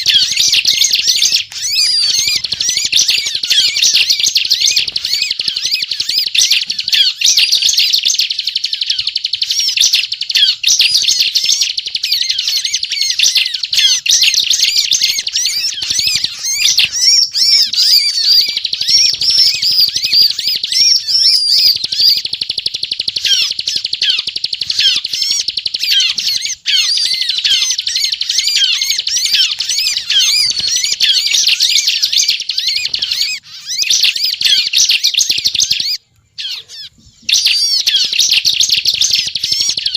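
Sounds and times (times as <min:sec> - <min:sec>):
bird singing rapid chatter: 0:00.0 - 0:39.9.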